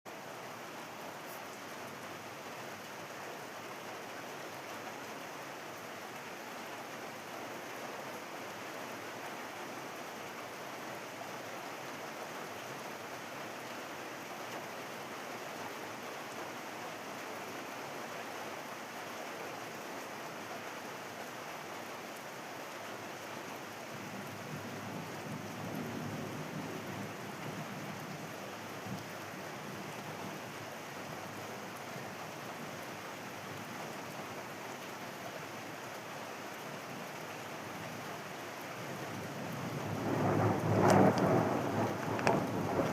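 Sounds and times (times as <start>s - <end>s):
heavy rain falling: 0.1s - 42.9s.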